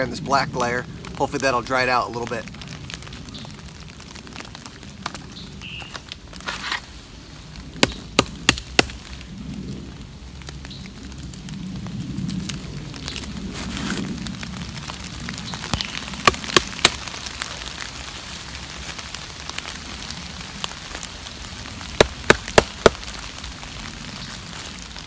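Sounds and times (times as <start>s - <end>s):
rain hiss: 0.0s - 25.0s.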